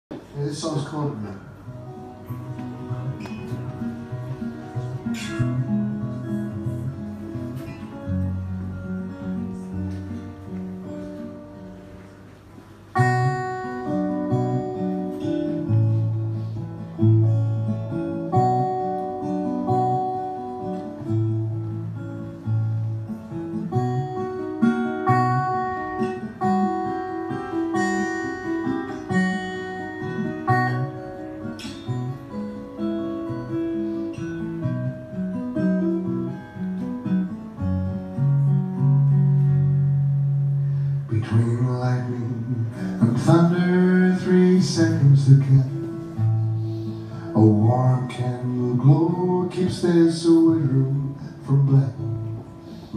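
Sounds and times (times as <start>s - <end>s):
acoustic guitar picking: 0.1s - 52.9s.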